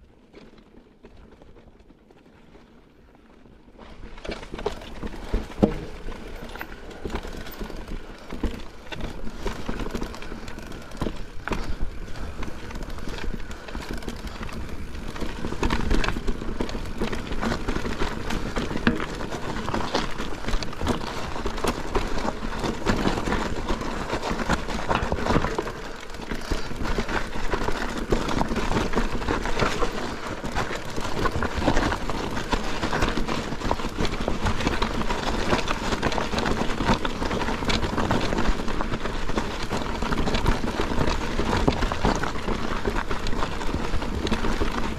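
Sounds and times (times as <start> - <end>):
bike rattling over bumps: 0.1 - 44.9
bike tyre noise: 0.1 - 44.9.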